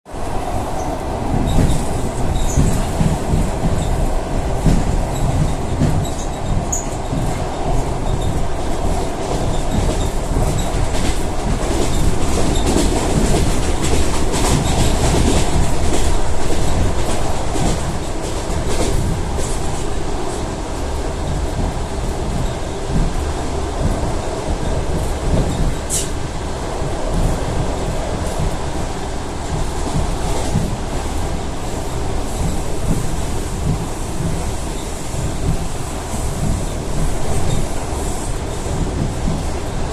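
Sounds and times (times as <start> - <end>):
train rumbling on rails: 0.1 - 39.9.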